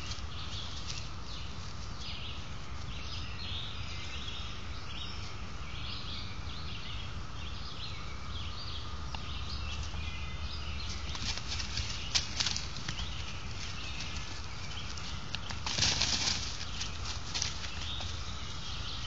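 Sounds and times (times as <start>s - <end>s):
birds singing and chirping: 0.0s - 19.0s
steady low hum: 0.0s - 19.0s.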